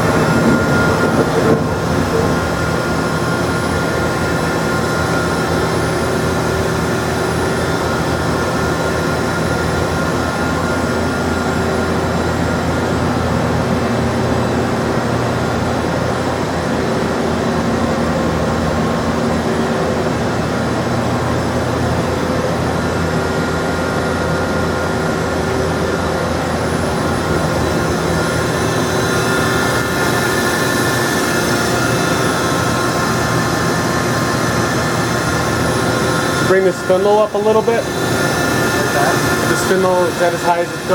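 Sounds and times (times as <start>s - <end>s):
machinery humming: 0.0s - 40.9s.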